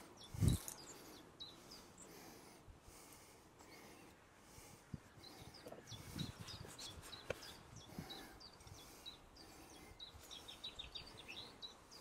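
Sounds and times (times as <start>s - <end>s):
faint songbird chirps: 0.0s - 12.0s.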